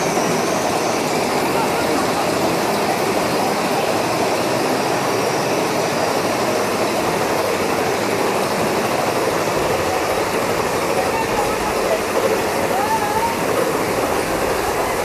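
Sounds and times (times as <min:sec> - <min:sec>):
roller coaster train rumbling: 0:00.0 - 0:15.0.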